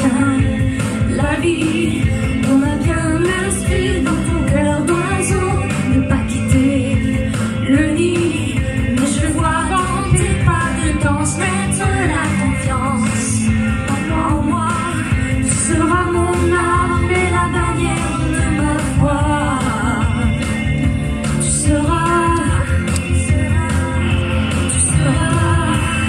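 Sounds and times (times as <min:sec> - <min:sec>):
loud amplified accompaniment: 0:00.0 - 0:26.0
man singing pop song: 0:00.0 - 0:26.0.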